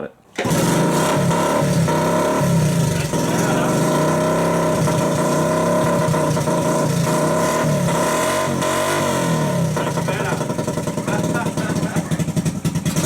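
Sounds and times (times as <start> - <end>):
motorcycle engine running: 0.4 - 13.0.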